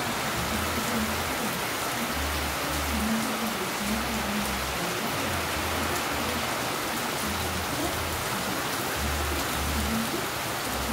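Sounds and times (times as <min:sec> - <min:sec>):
steady rain falling: 0:00.0 - 0:10.9.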